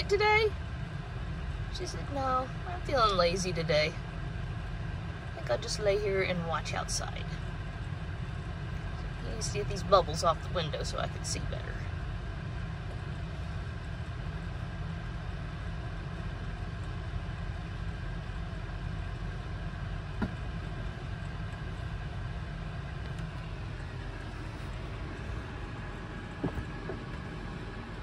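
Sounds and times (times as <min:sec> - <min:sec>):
low rumble: 0:00.0 - 0:28.0.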